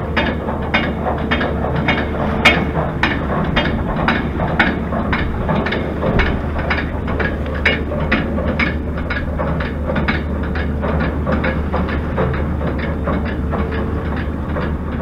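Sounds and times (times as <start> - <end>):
tyres rumbling on road: 0.0 - 15.0
bicycle clicking: 0.2 - 15.0.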